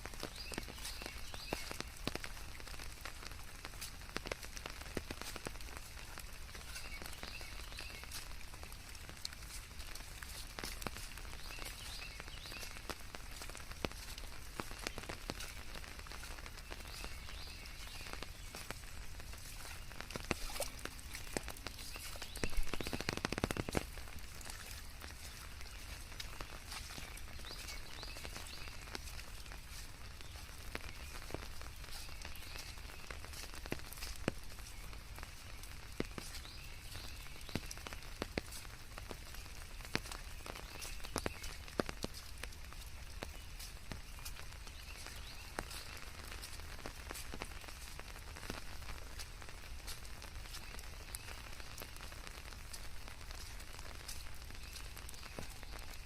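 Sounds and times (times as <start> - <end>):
sharp raindrop hits: 0.0 - 56.0
steady rain: 0.0 - 56.0.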